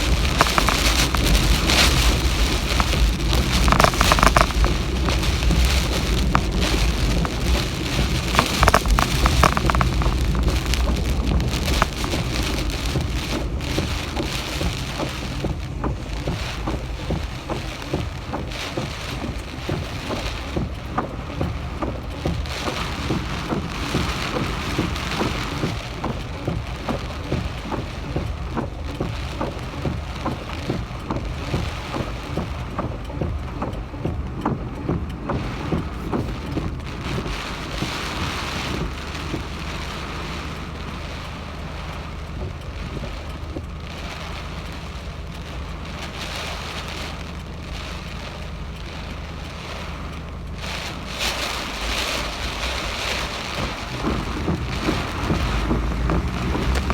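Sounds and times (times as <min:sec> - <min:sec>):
rain pattering: 0:00.0 - 0:56.9
wind rumble on microphone: 0:00.0 - 0:56.9.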